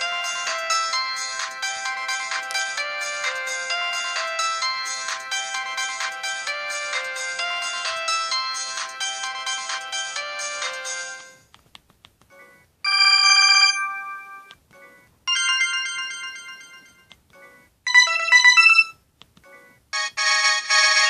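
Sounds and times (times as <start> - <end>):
phone ringtone melodies: 0.0 - 11.4, 12.3 - 21.0.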